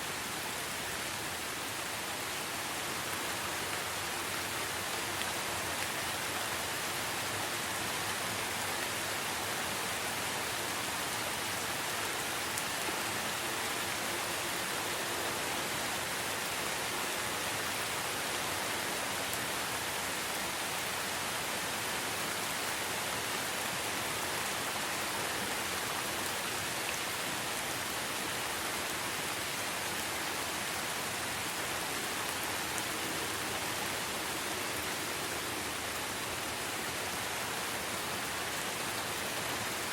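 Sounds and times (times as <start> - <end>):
steady rain in a forest: 0.0 - 39.9.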